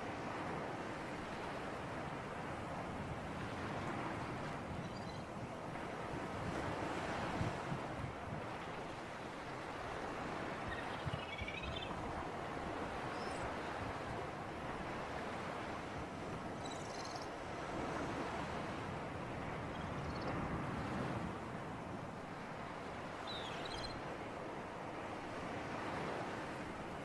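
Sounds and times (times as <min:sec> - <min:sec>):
sea breeze and surf: 0:00.0 - 0:27.0.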